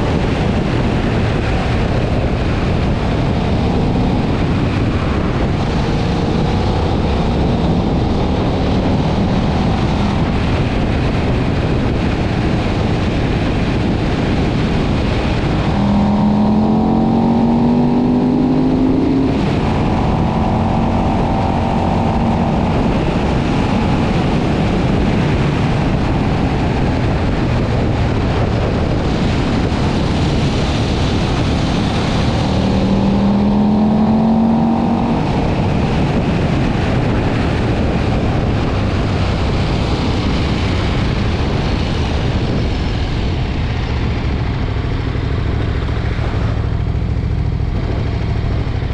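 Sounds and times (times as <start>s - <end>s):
motorcycle engine: 0.0s - 48.9s
wind noise on microphone: 0.0s - 48.9s.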